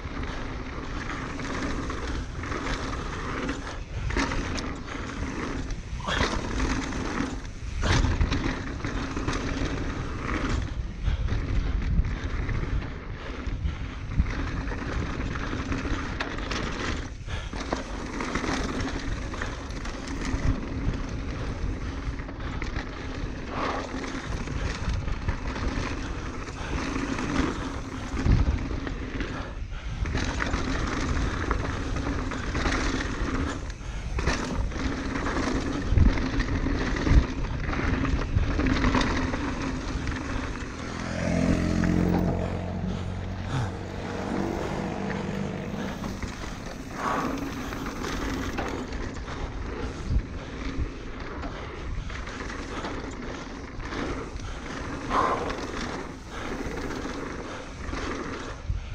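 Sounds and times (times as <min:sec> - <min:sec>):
bike tyres rolling over dirt and rocks: 0:00.0 - 0:58.9
wind rushing over microphone: 0:00.0 - 0:58.9.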